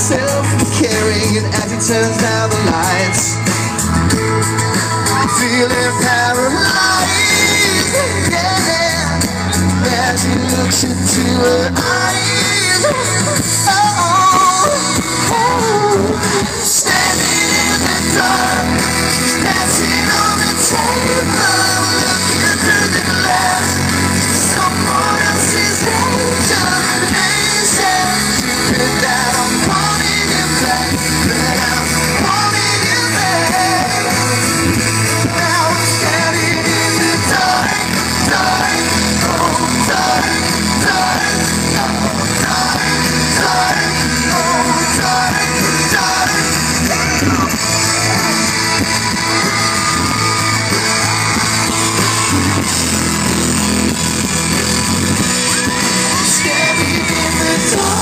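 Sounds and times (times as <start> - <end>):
crowd yelling: 0.0 - 58.0
live pop-rock band playing: 0.0 - 58.0
person singing: 0.0 - 58.0.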